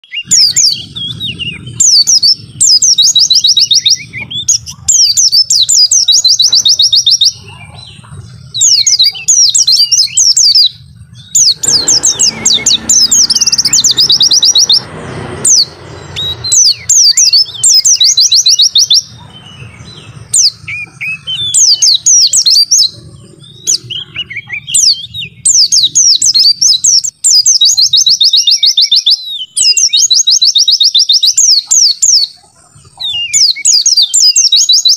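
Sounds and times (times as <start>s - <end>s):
bird chirping and trilling: 0.0s - 34.9s.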